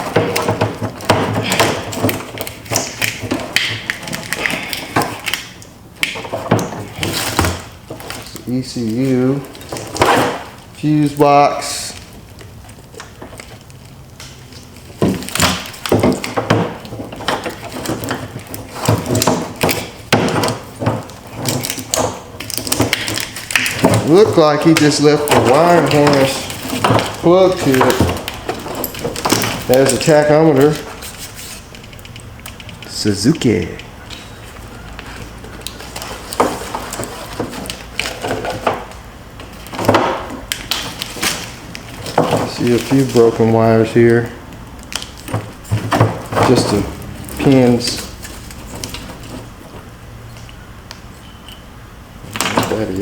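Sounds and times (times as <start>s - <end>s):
metal parts knocking and rattling: 0.0s - 5.4s, 12.0s - 50.6s
rustling: 0.0s - 53.0s.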